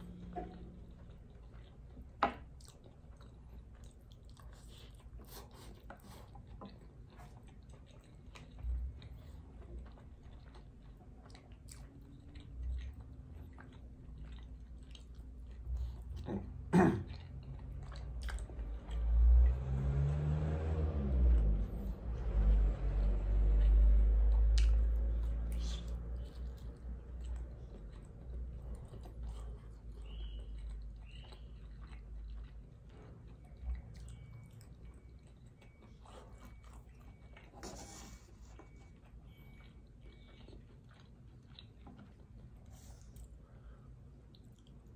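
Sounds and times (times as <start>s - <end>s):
chewing with wet mouth clicks: 0.0s - 44.9s.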